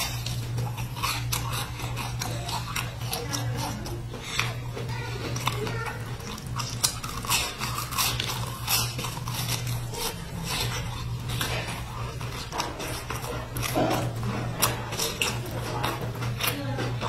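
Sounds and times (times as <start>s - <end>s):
chewing crunchy biscuits: 0.0s - 17.0s
steady low hum: 0.0s - 17.0s.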